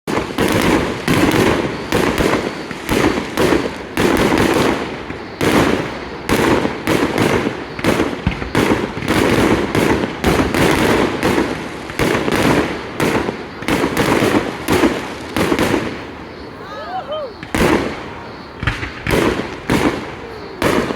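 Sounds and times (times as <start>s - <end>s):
fireworks bangs and crackling: 0.1s - 20.9s.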